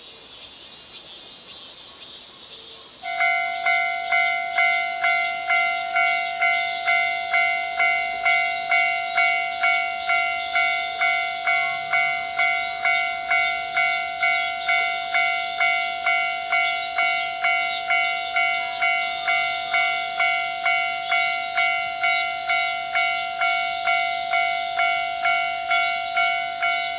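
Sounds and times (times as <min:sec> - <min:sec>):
level crossing warning bell: 0:03.0 - 0:26.9.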